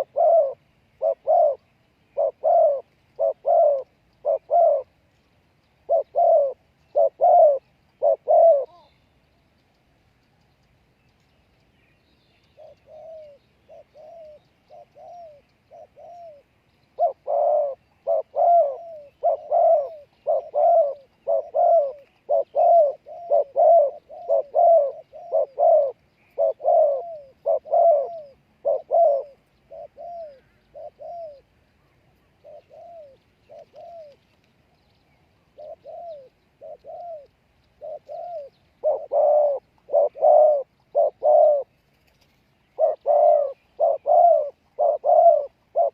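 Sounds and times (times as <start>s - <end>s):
dove cooing: 0.0s - 5.0s, 5.8s - 9.0s, 12.6s - 34.3s, 35.4s - 45.9s.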